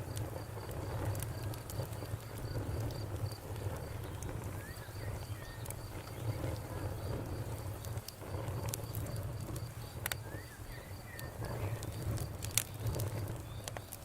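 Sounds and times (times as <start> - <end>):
campfire crackling and popping: 0.0 - 14.0
crickets chirping: 0.0 - 14.0.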